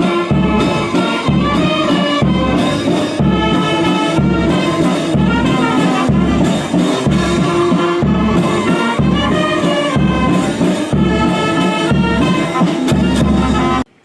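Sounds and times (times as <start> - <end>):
brass-led music with deep beat: 0.0 - 13.9.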